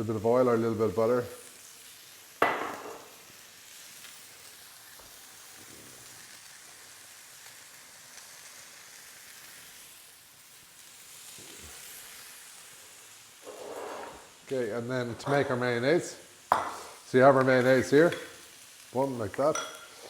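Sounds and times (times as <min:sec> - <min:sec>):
chicken sizzling in oil: 0:00.0 - 0:20.0.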